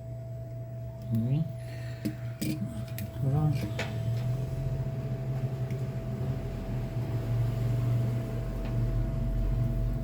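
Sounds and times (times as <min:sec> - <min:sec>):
hot-air blower humming and whining: 0:00.0 - 0:10.0.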